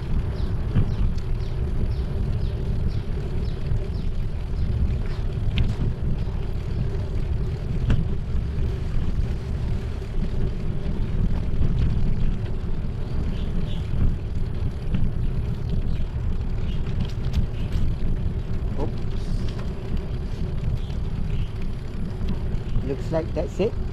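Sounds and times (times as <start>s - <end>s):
bicycle tyres rolling on concrete: 0.0s - 23.9s
wind rumble on microphone: 0.0s - 23.9s.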